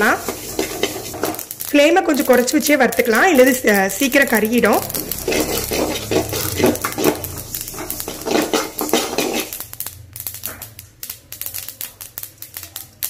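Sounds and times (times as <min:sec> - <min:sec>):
spatula scraping seeds in pan: 0:00.0 - 0:10.8
roasting seeds popping: 0:00.0 - 0:13.0.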